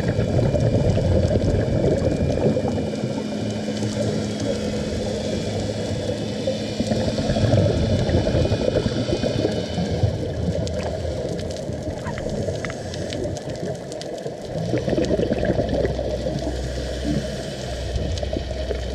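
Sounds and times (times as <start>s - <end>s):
faint crackling clicks: 0.0s - 18.9s
underwater breathing bubbles: 0.0s - 18.9s.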